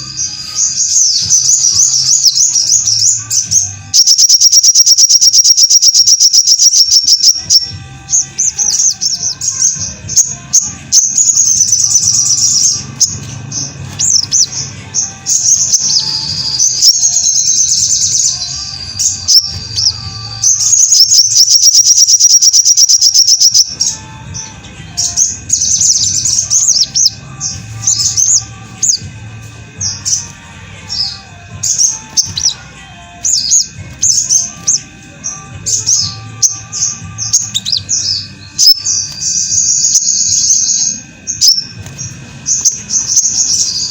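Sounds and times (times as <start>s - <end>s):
bird chirps and trills: 0.0s - 43.9s.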